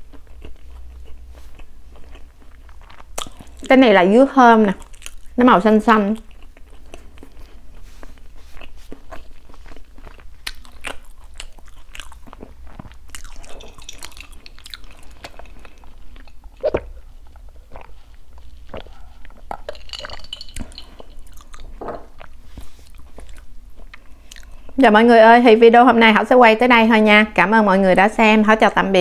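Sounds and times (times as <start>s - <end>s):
mouth chewing sticky food: 0.0s - 24.8s.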